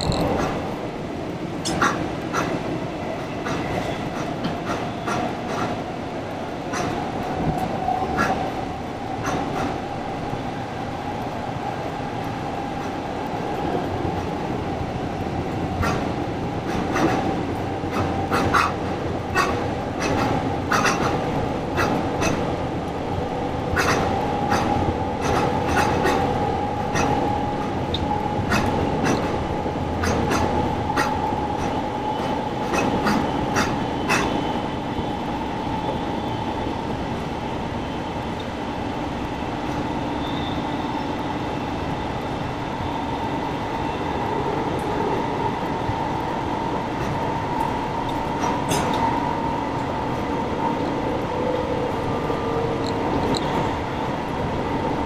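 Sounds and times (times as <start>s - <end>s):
electric train whine: 0.0s - 55.0s
train wheels rumbling on rails: 0.0s - 55.0s.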